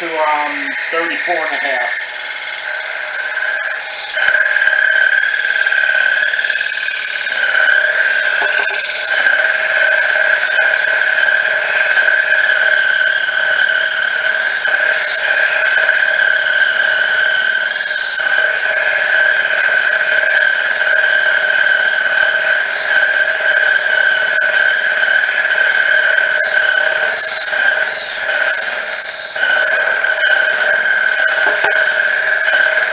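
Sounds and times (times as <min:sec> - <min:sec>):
milling cutter squealing: 0:00.0 - 0:32.9.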